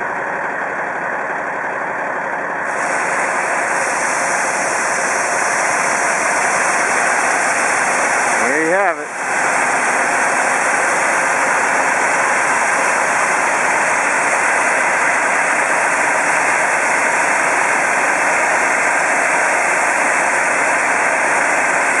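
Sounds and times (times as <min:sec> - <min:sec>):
grain rushing through auger: 0:02.6 - 0:22.0.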